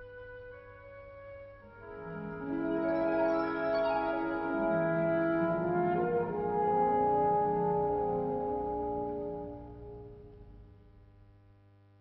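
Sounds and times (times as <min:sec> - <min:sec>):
music of sustained notes: 0:00.0 - 0:10.6.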